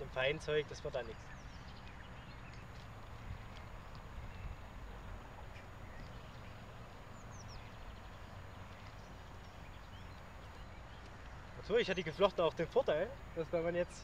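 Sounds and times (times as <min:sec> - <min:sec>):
low outdoor rumble and hiss: 0:00.0 - 0:14.0.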